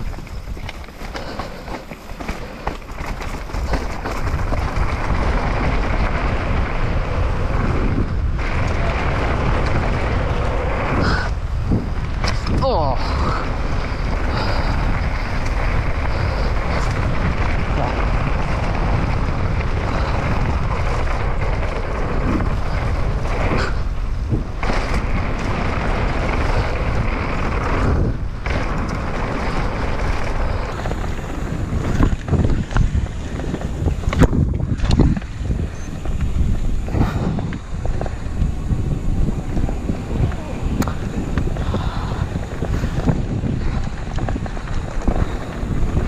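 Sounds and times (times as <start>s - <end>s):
bike knocking on bumpy grass: 0.0s - 46.0s
bike tyres rolling on dirt: 0.0s - 46.0s
wind rushing over microphone: 0.0s - 46.0s.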